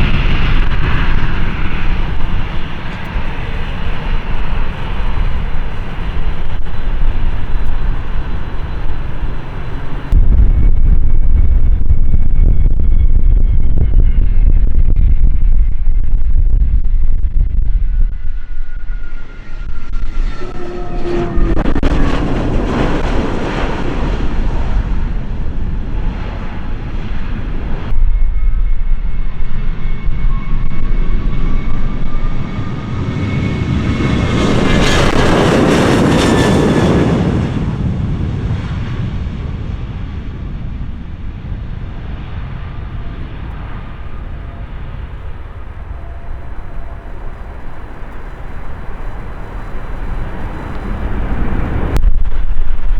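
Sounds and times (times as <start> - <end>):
jet engines passing: 0.0 - 52.9.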